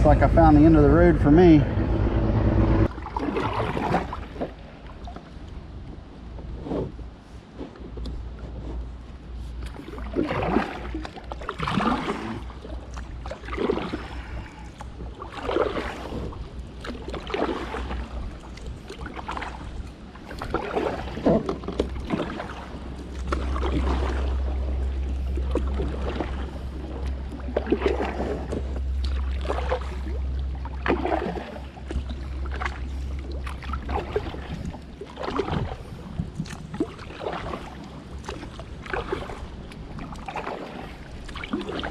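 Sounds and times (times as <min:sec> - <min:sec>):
wind rumble on microphone: 0:00.0 - 0:41.9
paddle splashing in water: 0:02.8 - 0:05.6, 0:06.4 - 0:41.9.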